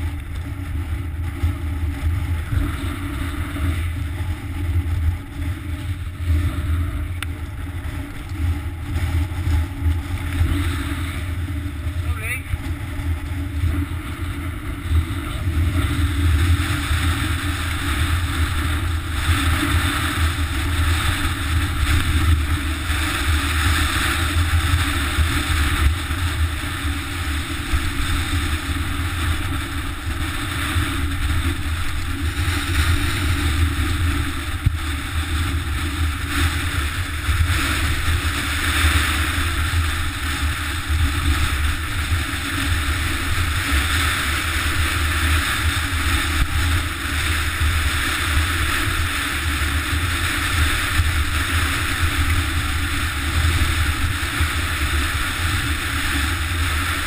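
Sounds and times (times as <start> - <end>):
low rumble: 0.0 - 57.0
wind noise on microphone: 0.0 - 57.0.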